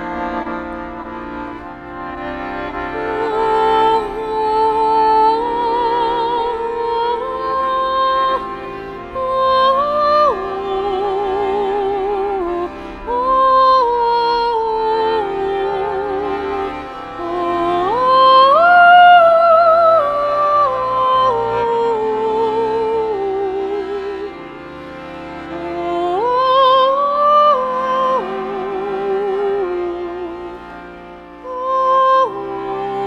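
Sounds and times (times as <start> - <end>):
accordion playing slow melody: 0.0 - 33.0.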